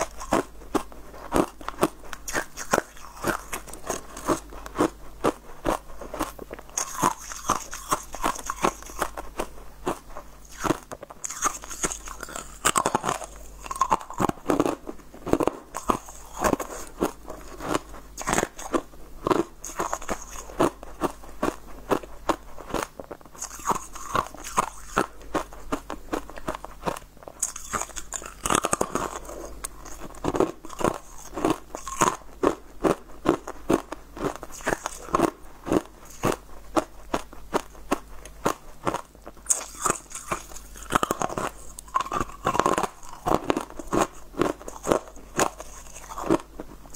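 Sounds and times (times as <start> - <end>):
crunchy chewing of corn: 0.0 - 46.9.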